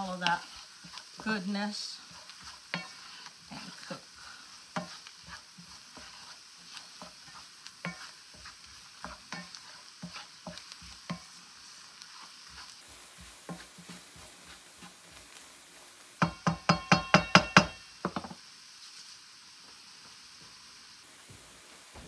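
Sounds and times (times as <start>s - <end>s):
spatula scraping frying pan: 0.0s - 19.1s
faint sizzle in oil: 0.0s - 22.0s.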